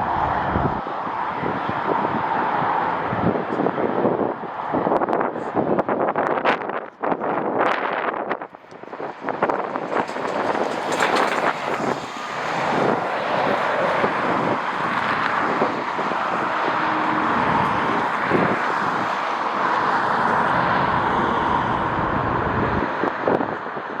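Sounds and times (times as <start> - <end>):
jet engine noise: 0.0 - 24.0
wind buffeting microphone: 0.0 - 24.0.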